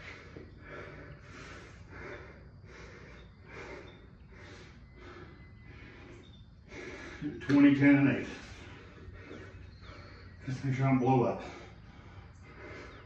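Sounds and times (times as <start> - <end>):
man breathing hard: 0.0 - 13.0.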